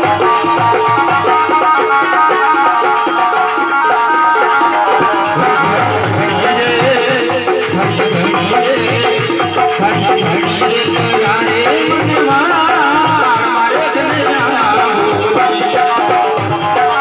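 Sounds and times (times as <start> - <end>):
hand drum beat: 0.0 - 17.0.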